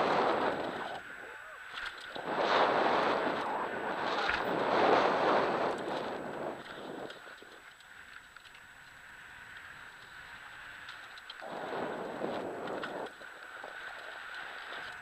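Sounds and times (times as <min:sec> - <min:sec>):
wind buffeting microphone: 0:00.0 - 0:08.2, 0:09.4 - 0:15.0
bike tyres rolling over dirt: 0:00.0 - 0:15.0.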